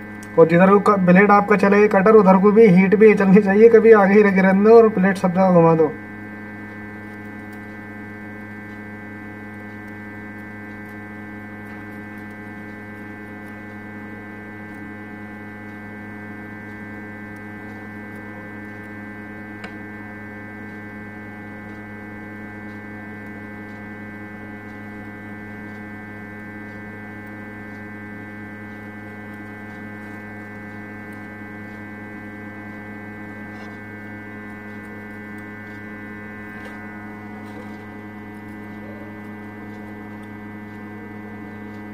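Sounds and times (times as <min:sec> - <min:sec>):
hot-air station electrical hum: 0:00.0 - 0:41.9.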